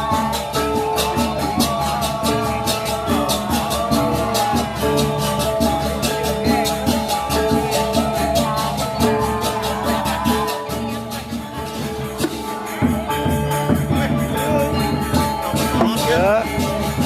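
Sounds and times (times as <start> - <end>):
ringing metallic gamelan tones: 0.0 - 17.0.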